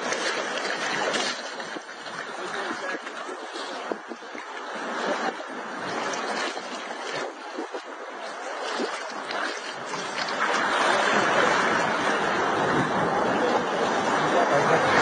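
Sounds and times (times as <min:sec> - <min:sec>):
sea water splashing: 0:00.0 - 0:15.0.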